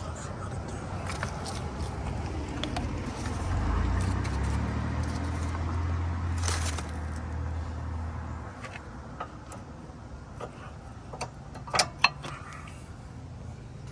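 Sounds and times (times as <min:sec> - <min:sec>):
vehicle engine rumble: 0:00.0 - 0:13.9.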